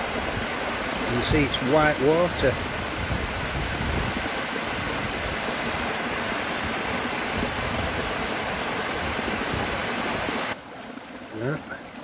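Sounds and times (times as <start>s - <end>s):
waterfall roaring: 0.0s - 10.6s.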